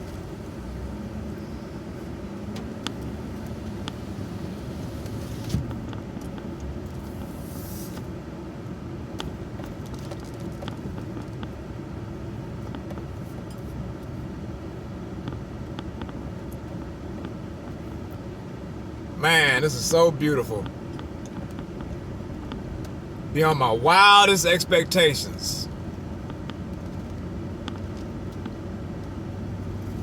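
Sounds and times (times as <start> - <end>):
truck engine and road rumble: 0.0 - 30.0.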